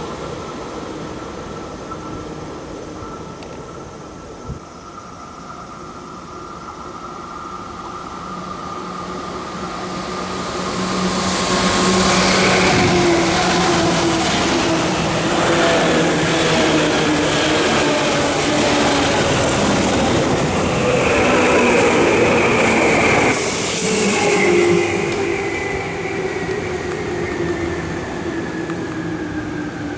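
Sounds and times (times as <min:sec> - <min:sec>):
electric train motors whining: 0:05.6 - 0:29.9.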